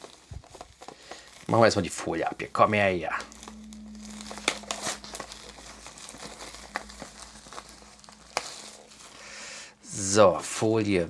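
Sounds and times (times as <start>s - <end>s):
plastic film crinkling: 0.0s - 9.8s.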